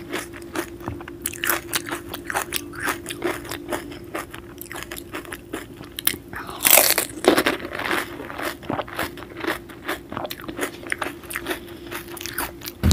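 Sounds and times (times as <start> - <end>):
chewing: 0.0 - 12.8
crunching crisp snack: 0.0 - 12.8.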